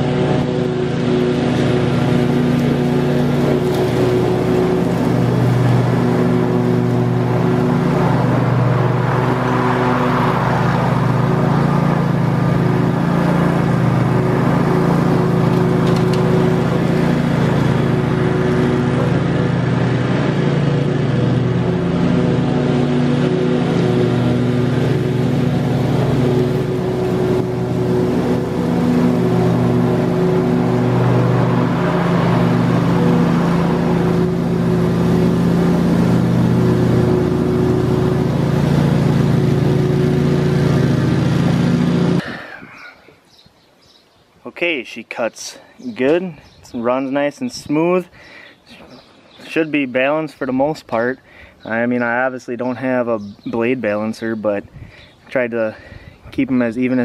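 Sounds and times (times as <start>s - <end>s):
lawn mower cutting grass: 0.0s - 44.0s, 46.1s - 57.0s.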